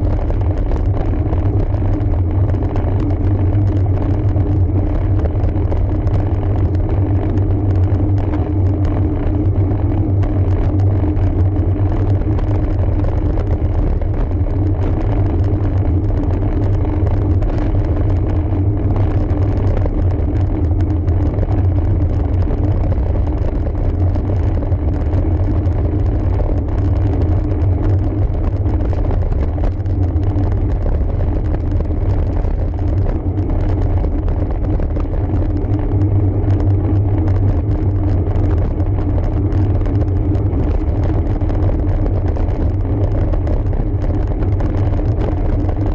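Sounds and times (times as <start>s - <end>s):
wind and road rumble: 0.0s - 45.9s.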